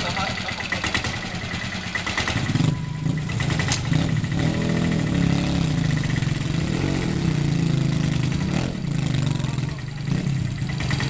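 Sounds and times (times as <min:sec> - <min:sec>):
small engines droning under load: 0:00.0 - 0:11.0.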